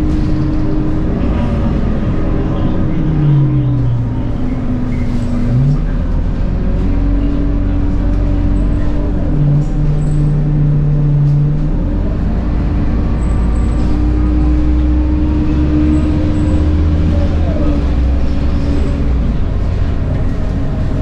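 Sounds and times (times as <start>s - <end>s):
bus engine with gearbox whine: 0.0s - 21.0s
low engine tone: 0.0s - 21.0s.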